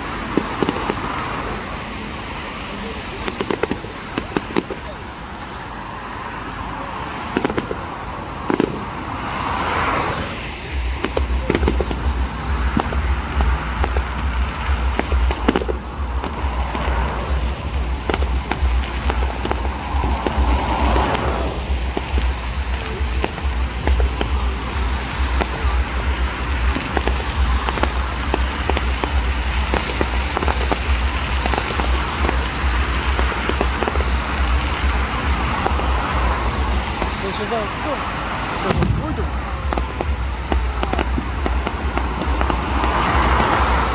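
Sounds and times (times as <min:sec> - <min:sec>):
fireworks bangs: 0:00.0 - 0:43.9
fireworks crackling hiss: 0:00.0 - 0:43.9
low rumble: 0:07.1 - 0:43.9.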